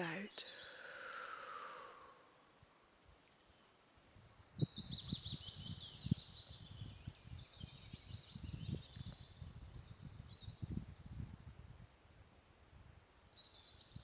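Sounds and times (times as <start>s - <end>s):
songbird singing: 0.0s - 12.0s, 12.9s - 14.0s.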